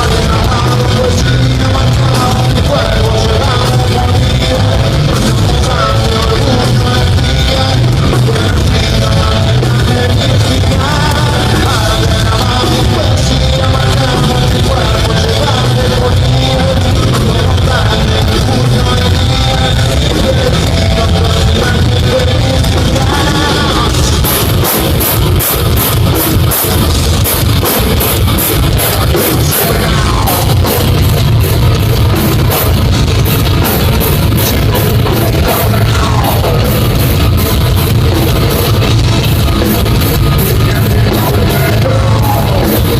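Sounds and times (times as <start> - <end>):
person singing: 0.0 - 26.9, 27.6 - 31.4, 33.5 - 39.0, 39.6 - 42.9
heavy metal band playing live: 0.0 - 42.9.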